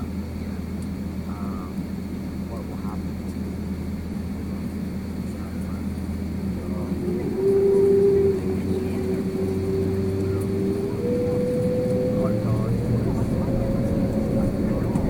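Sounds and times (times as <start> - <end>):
aircraft engines humming: 0.0 - 15.0
steady whine: 0.0 - 15.0.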